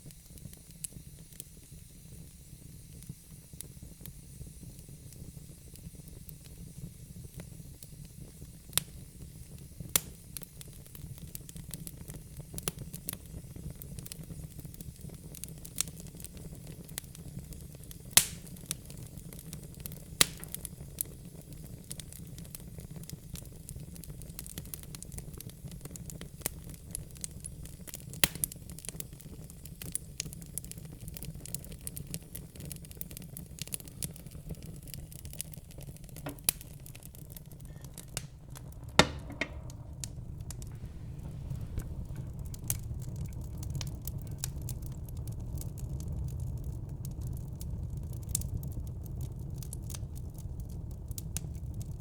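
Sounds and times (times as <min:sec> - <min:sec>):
fire rumbling: 0:00.0 - 0:52.0
wood crackling and popping: 0:07.2 - 0:52.0.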